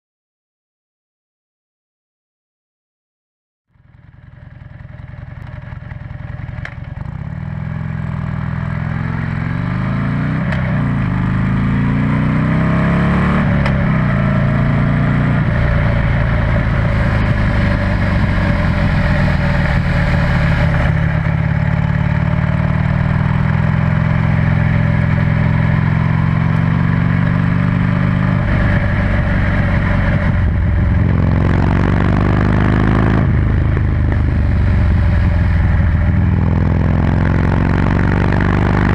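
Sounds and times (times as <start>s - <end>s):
motorcycle engine revving: 3.8s - 38.9s.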